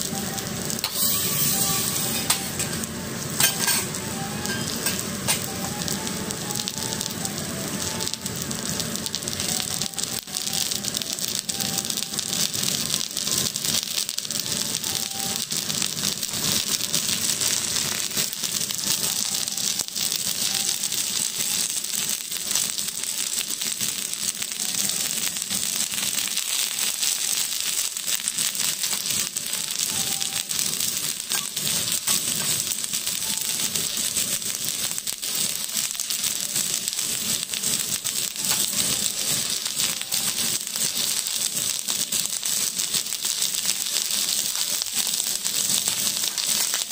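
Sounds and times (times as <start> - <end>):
mushrooms sizzling on a griddle: 0.0 - 46.9.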